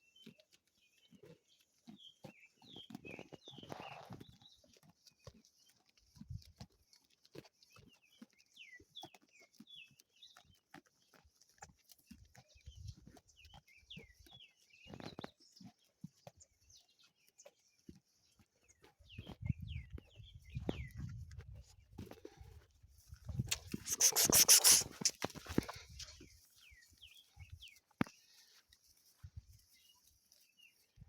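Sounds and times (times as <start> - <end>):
small birds chirping: 0.0 - 22.4, 23.3 - 31.0
sheep tearing and chewing grass: 0.0 - 31.0.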